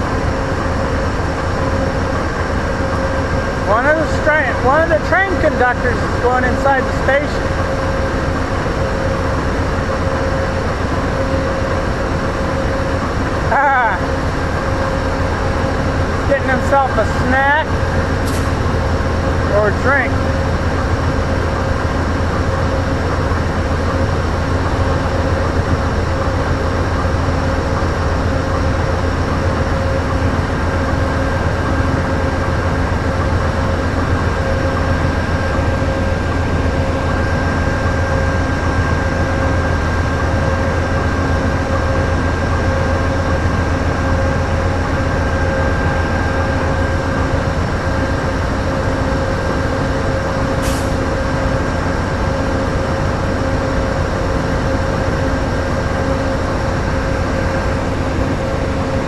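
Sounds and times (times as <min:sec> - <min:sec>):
diesel locomotives idling: 0:00.0 - 0:59.0.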